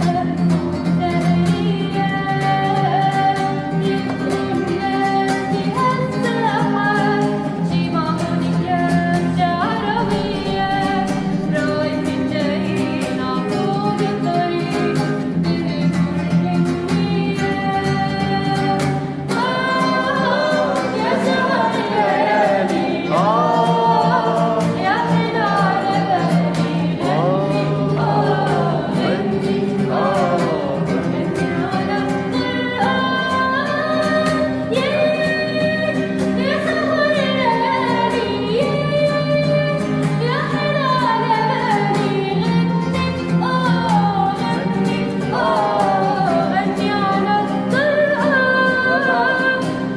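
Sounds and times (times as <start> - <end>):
girl singing: 0.0 - 49.9.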